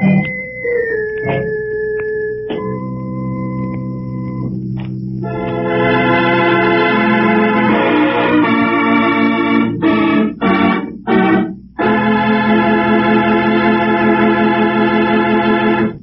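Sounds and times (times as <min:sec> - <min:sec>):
organ chords: 0:00.0 - 0:16.0.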